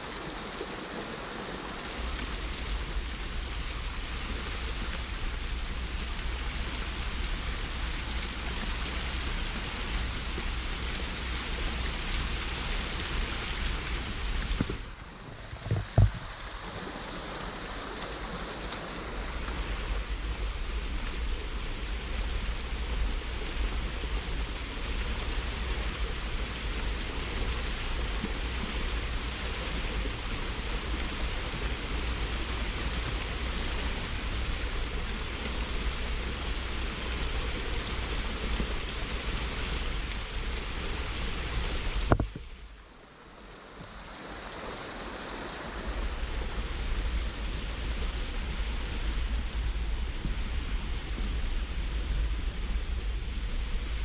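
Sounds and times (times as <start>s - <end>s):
stream rushing over rock: 0.0s - 54.0s.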